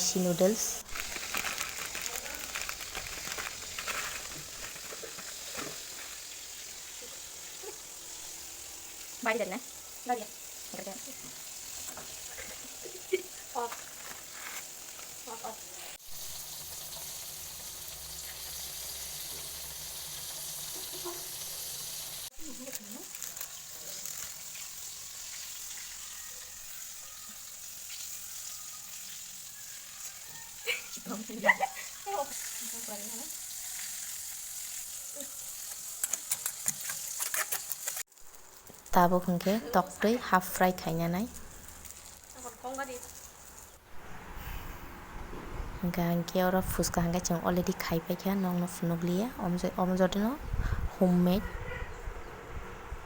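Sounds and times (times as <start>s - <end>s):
food sizzling in hot oil: 0.0s - 43.8s.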